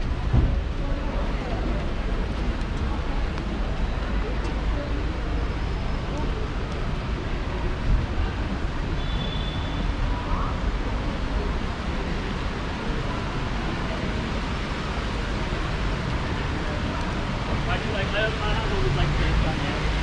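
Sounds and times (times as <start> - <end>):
low traffic rumble: 0.0 - 20.0
wet tyres on road: 0.0 - 20.0.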